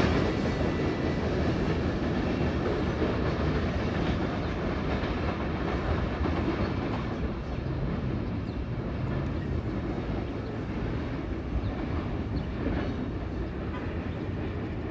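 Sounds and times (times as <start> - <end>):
faint clicks of train wheels: 0.0 - 14.9
train wheels rumbling on rails: 0.0 - 14.9.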